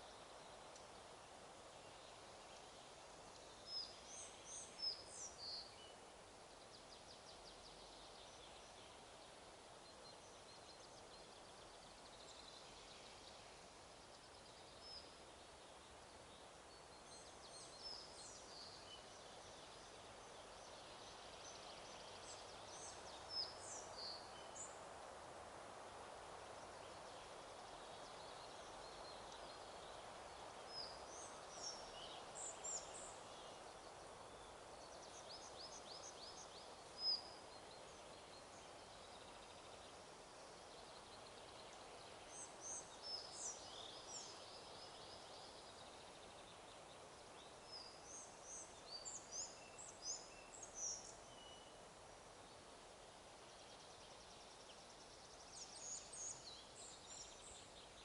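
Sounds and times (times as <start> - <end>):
wind hiss: 0.0 - 58.0
small birds chirping: 1.6 - 25.0, 25.9 - 58.0.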